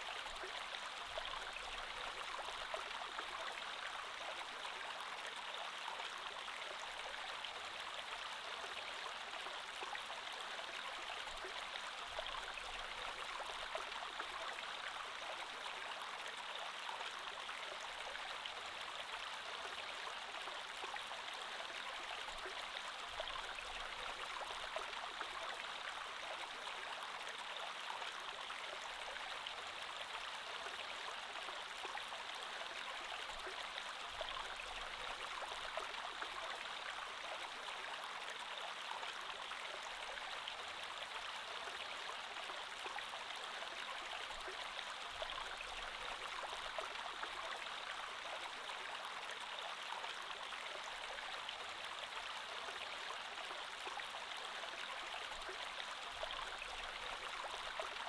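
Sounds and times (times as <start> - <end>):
creek water flowing over stones: 0.0 - 58.0.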